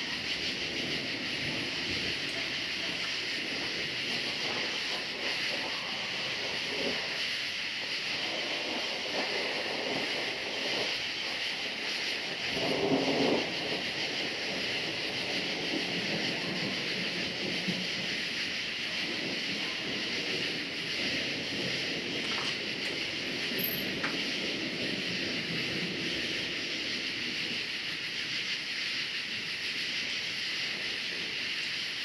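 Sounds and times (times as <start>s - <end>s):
distant thunder rumbling: 0.0s - 28.4s
crickets chirping: 0.0s - 32.0s.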